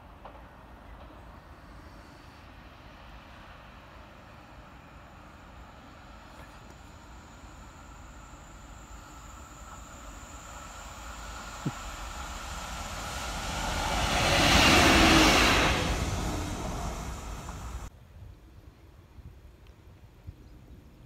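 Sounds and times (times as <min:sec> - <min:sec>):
diesel locomotive passing: 0:00.0 - 0:17.9.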